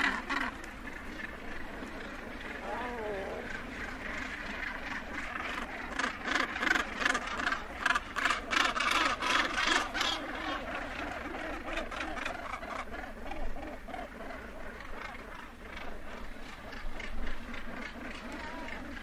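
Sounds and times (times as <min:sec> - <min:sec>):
harsh grating bird calls: 0:00.0 - 0:19.0
rasping chatter of bird colony: 0:00.0 - 0:19.0.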